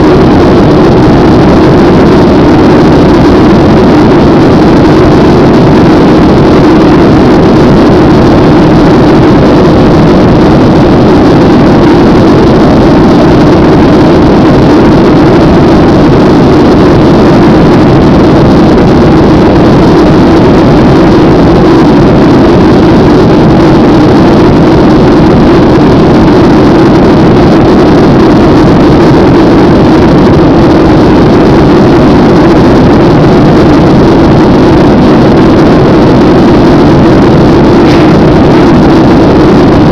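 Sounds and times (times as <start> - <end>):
jet engine cabin hum: 0.0 - 39.9.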